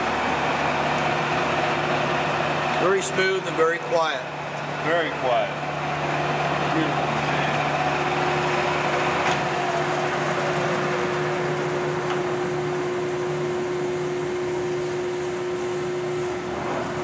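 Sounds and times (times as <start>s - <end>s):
lathe mechanical hum: 0.0s - 17.0s.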